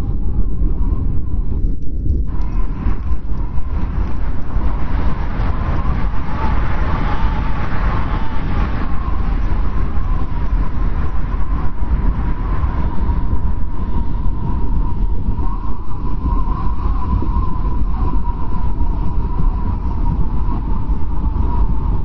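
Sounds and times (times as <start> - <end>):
strong wind rumbling: 0.0 - 22.0
wind whistling: 0.0 - 22.0.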